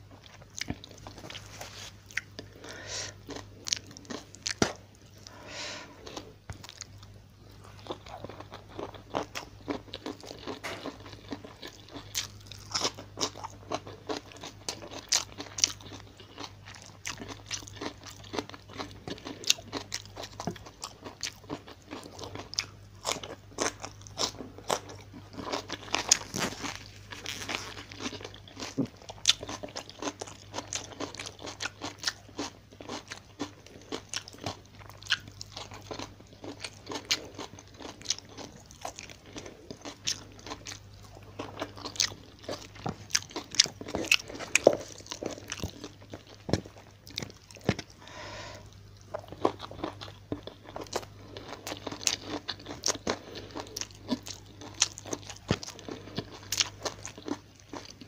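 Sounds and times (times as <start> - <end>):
crunching and chewing: 0.0 - 58.0
faint low hum: 0.0 - 58.0.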